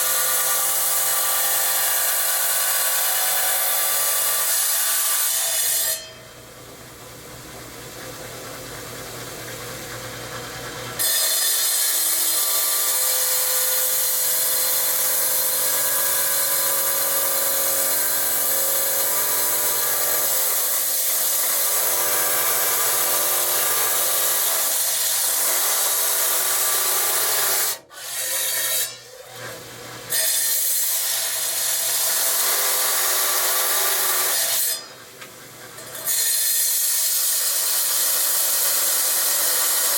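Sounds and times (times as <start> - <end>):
tile saw grinding through stone: 0.0 - 6.3, 8.0 - 39.9.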